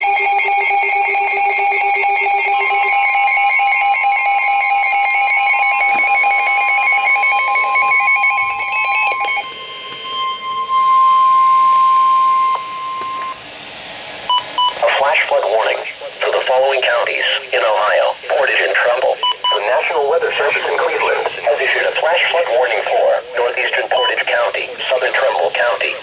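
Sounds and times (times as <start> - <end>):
steady warning alarm tone: 0.0 - 26.0
warbling digital data tones: 0.0 - 26.0.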